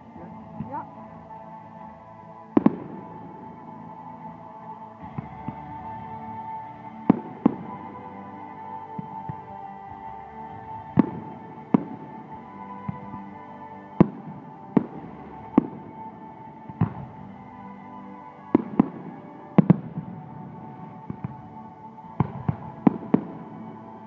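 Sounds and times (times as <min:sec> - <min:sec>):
background music: 0:00.0 - 0:24.0
fireworks bursting: 0:02.5 - 0:04.1, 0:05.0 - 0:17.4, 0:18.0 - 0:24.0.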